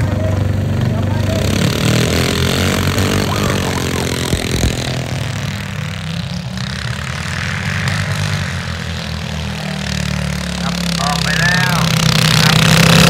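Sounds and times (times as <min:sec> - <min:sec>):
engine knocks: 0:00.0 - 0:13.0
tractor engine idling: 0:00.0 - 0:13.0.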